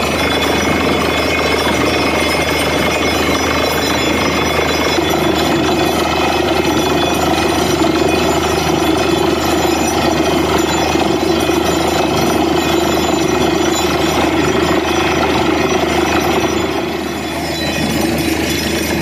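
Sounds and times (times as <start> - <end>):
drilling rig running: 0.0 - 19.0.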